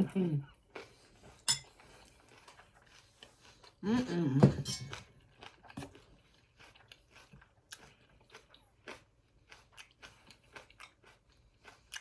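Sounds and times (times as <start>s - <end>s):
person chewing: 0.5s - 12.0s.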